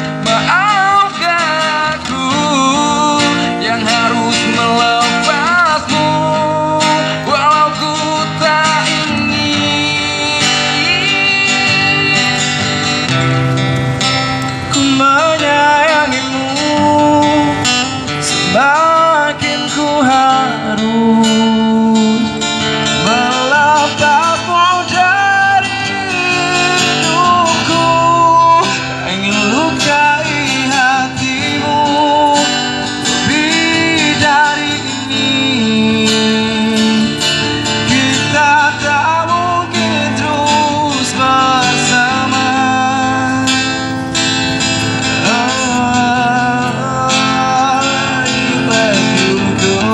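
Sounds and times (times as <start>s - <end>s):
man singing pop ballad: 0.0s - 13.1s, 14.6s - 44.1s, 44.8s - 49.9s
acoustic guitar strumming: 0.0s - 49.9s.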